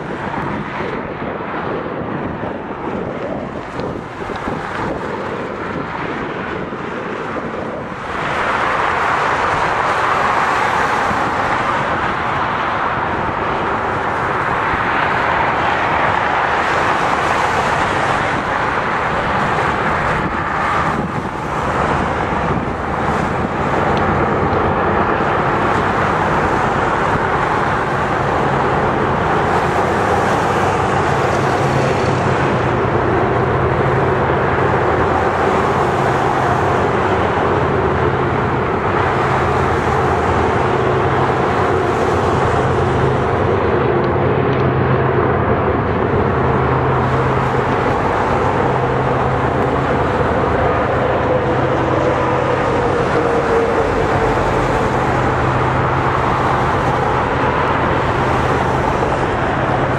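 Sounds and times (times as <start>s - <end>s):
constant rushing noise: 0.0s - 59.9s
distant freight train rumble: 0.0s - 59.9s.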